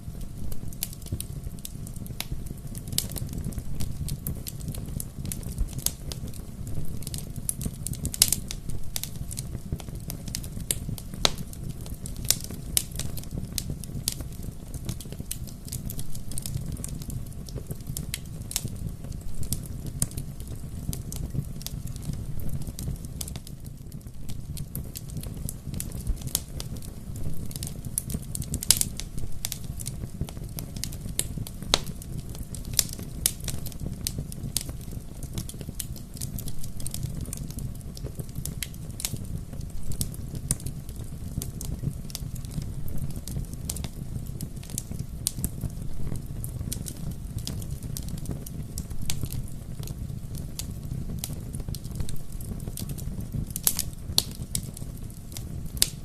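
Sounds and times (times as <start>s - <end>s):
bonfire crackling and popping: 0.0s - 56.0s.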